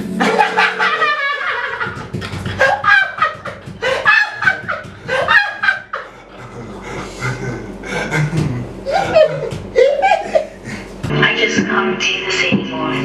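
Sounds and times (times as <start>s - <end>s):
young men laughing hard: 0.1s - 11.1s.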